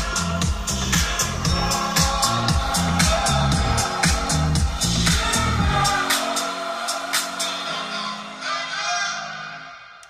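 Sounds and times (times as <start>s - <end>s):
music from loudspeakers: 0.0s - 10.0s.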